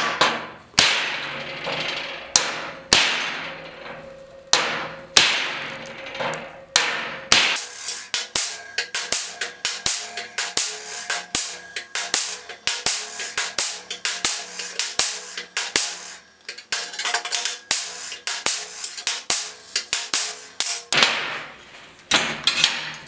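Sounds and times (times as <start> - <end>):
hammer striking steel: 0.0 - 23.0.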